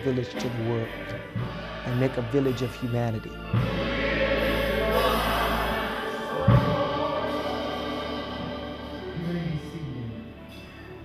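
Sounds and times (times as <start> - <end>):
choir singing gospel: 0.0 - 10.9.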